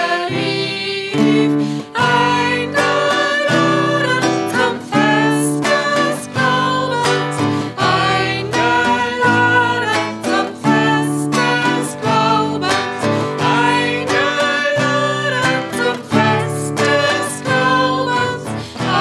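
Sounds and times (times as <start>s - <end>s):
acoustic guitar: 0.0s - 19.0s
women singing a church song: 0.0s - 19.0s.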